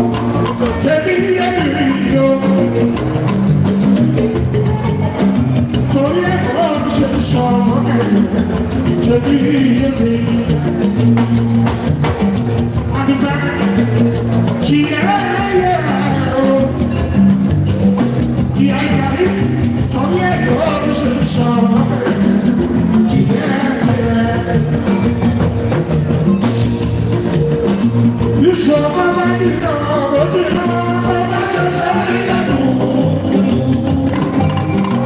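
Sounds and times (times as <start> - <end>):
man singing: 0.0 - 26.0, 28.2 - 35.0
live band music: 0.0 - 35.0.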